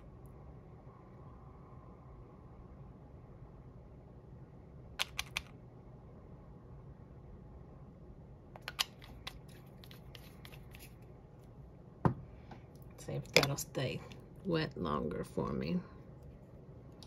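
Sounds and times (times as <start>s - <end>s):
desk fan humming: 0.0s - 17.0s.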